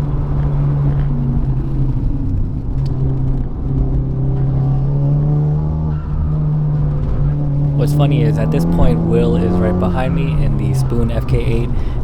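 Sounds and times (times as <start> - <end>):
car engine revving under load: 0.6 - 12.0.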